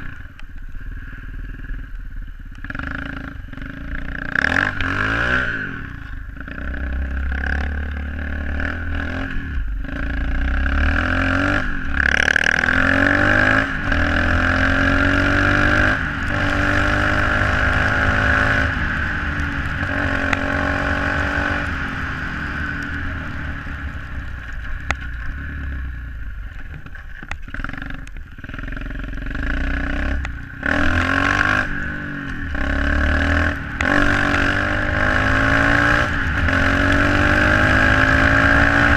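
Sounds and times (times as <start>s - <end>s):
pit bike engine revving: 2.5s - 26.2s, 27.4s - 38.9s.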